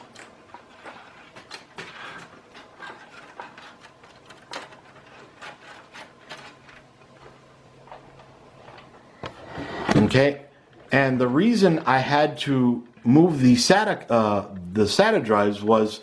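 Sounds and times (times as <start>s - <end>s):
cables rustling and scraping: 0.0s - 13.9s.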